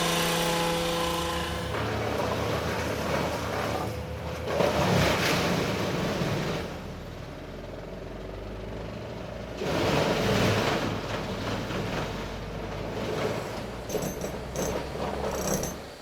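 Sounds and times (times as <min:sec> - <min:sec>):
chipper engine running: 0:00.0 - 0:15.4.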